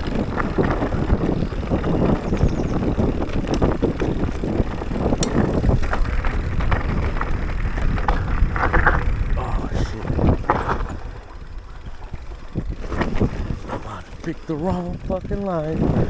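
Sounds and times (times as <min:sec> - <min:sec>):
bike clattering over rocks: 0:00.0 - 0:16.0
wind rumbling on microphone: 0:00.0 - 0:16.0.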